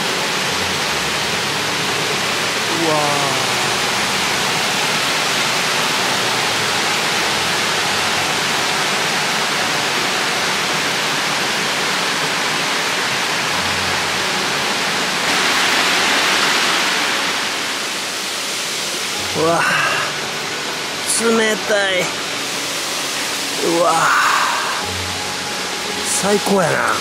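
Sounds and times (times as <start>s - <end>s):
stream water rushing over rocks: 0.0s - 27.0s.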